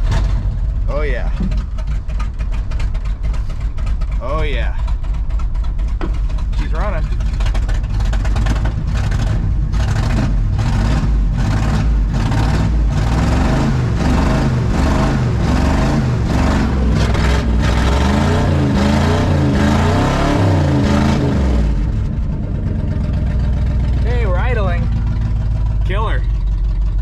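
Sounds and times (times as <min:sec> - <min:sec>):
engine revving unevenly: 0:00.0 - 0:01.7, 0:04.2 - 0:04.9, 0:06.0 - 0:27.0.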